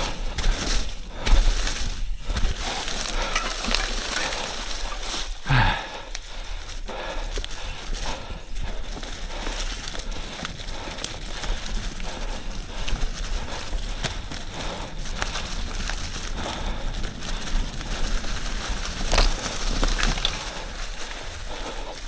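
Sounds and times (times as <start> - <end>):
bike knocks and rattles: 0.0 - 5.4, 8.6 - 21.9
bike tyres crunching on dirt: 0.0 - 22.0.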